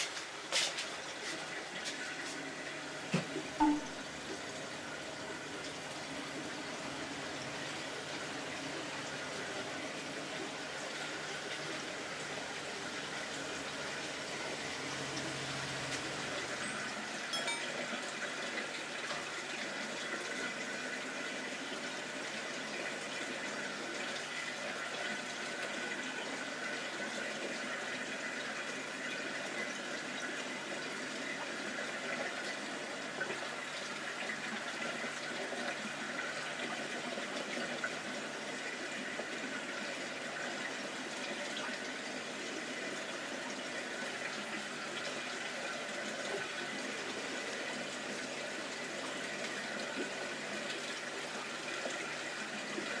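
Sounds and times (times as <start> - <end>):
aquarium filter bubbling: 0.0 - 53.0.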